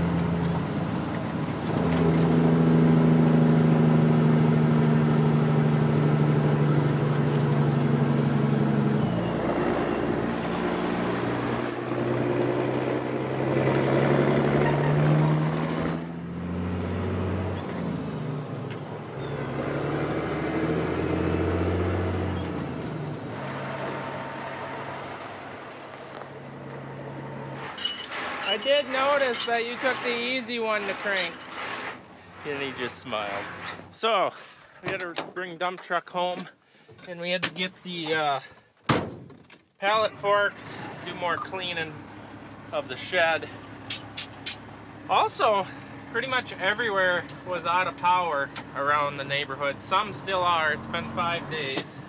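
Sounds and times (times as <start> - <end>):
diesel truck engine droning: 0.0 - 34.0, 39.8 - 52.0.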